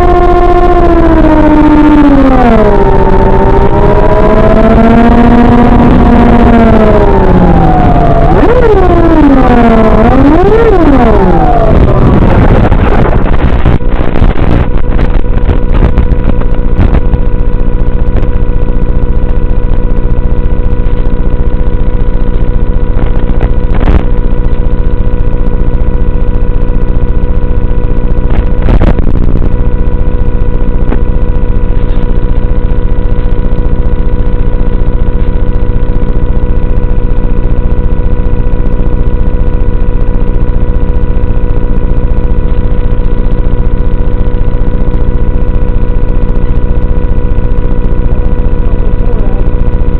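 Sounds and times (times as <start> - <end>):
electric motor and propeller drone: 0.0 - 49.9.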